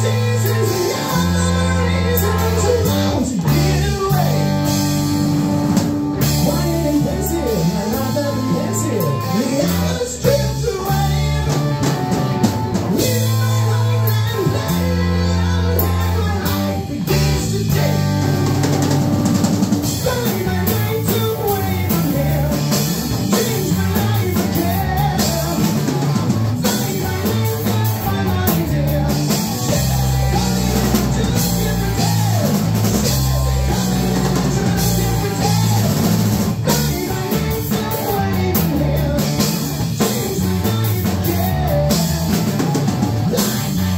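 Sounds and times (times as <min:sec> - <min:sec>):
drum kit: 0:00.0 - 0:43.9
electric bass: 0:00.0 - 0:43.9
electric guitar: 0:00.0 - 0:43.9.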